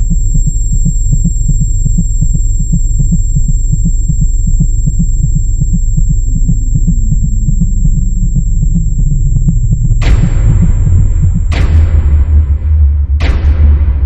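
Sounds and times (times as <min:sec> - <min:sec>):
throbbing electric hum: 0:00.0 - 0:14.0.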